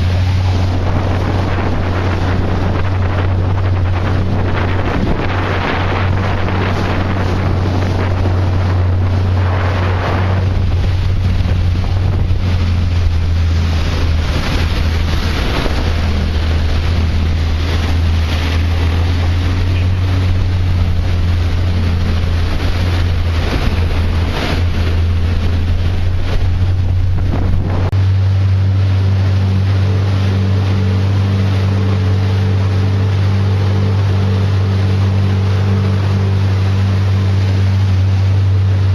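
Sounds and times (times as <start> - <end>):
marine engine droning: 0.0 - 38.9
rushing water and spray: 0.0 - 38.9
wind buffeting microphone: 0.0 - 38.9.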